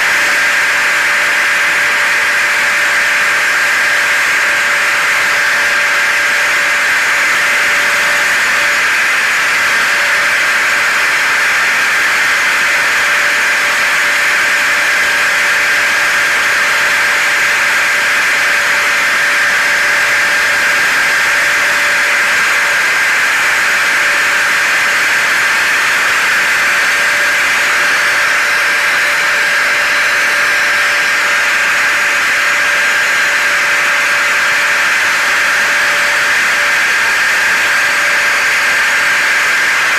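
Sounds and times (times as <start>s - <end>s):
hair dryer and vacuum cleaner running: 0.0s - 39.9s.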